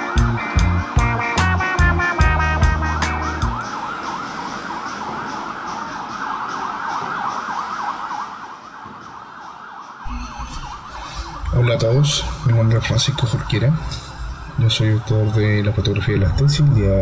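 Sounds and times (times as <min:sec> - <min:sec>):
music beat: 0:00.0 - 0:07.6, 0:10.1 - 0:16.8
sirens wailing: 0:00.0 - 0:17.0.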